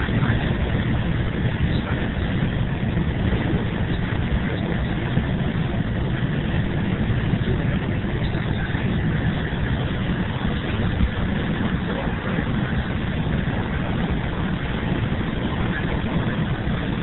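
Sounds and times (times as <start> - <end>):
engine and road noise inside coach: 0.0 - 17.0.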